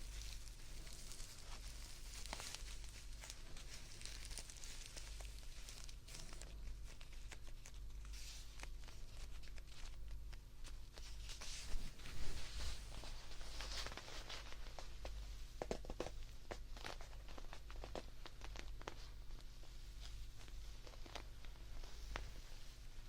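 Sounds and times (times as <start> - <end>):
rustling and crinkling: 0.0 - 23.0
steady low hum: 0.0 - 23.0.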